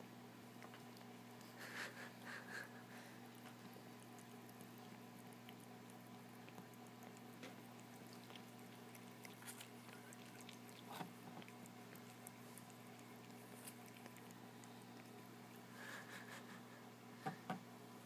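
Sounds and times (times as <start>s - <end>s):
cats licking and grooming: 0.0s - 17.1s.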